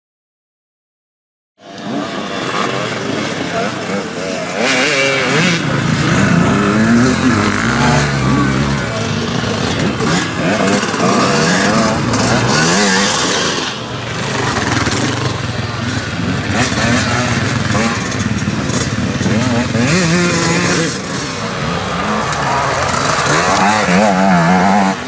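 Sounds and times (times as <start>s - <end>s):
two-stroke motorcycle engine revving: 1.6s - 25.0s.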